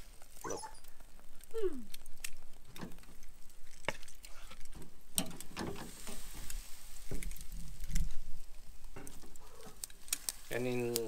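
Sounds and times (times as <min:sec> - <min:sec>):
sausages sizzling on a grill: 0:00.0 - 0:11.0
sharp crackles and pops: 0:00.0 - 0:11.0.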